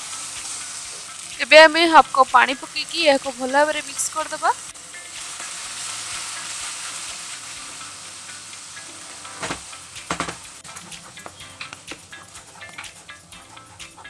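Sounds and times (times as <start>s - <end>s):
paste sizzling in a frying pan: 0.0s - 14.0s.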